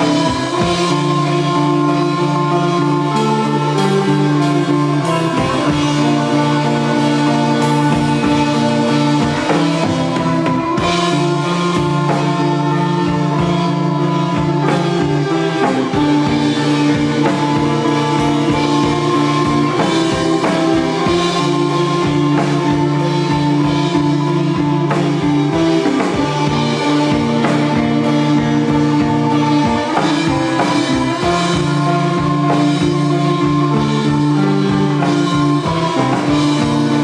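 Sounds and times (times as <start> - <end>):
drum kit beat: 0.0 - 37.0
electric guitar chords: 0.0 - 37.0.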